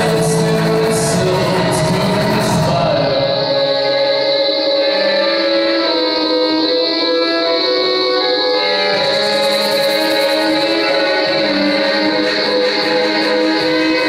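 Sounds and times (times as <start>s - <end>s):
violins playing held notes: 0.0s - 14.0s.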